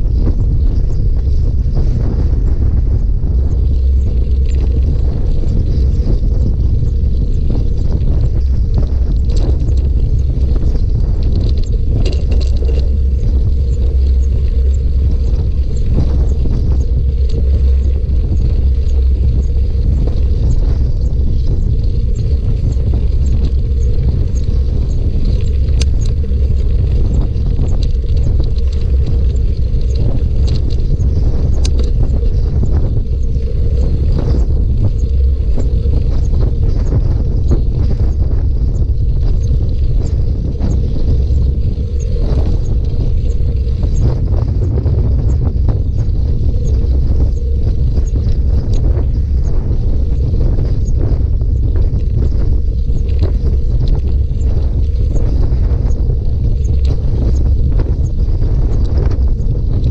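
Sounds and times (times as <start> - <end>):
bike clicks and rattles: 0.0 - 59.9
tyres rolling on rough trail: 0.0 - 59.9
wind buffeting microphone: 0.0 - 59.9.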